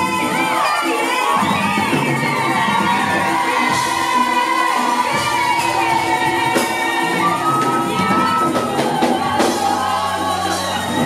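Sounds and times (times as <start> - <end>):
band with drums: 0.0 - 11.0
woman singing into microphone: 0.0 - 11.0.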